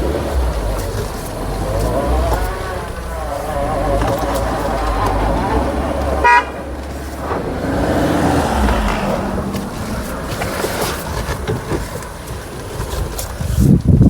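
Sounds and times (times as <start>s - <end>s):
car engine under load: 0.0s - 14.0s.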